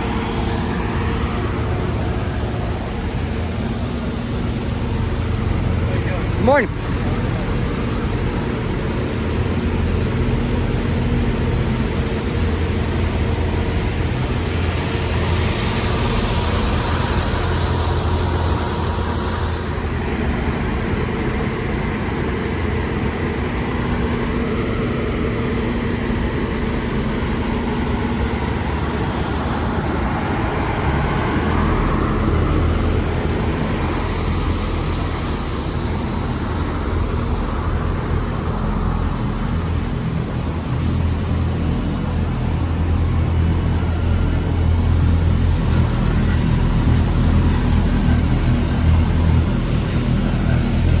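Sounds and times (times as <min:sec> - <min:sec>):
tyre and road noise: 0:00.0 - 0:51.0
vehicle engine hum: 0:00.0 - 0:51.0.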